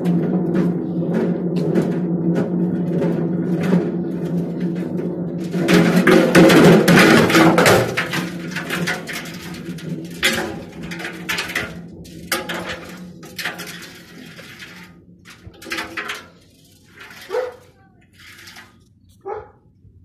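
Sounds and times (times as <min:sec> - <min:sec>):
objects clattering in washing machine: 0:00.0 - 0:18.8.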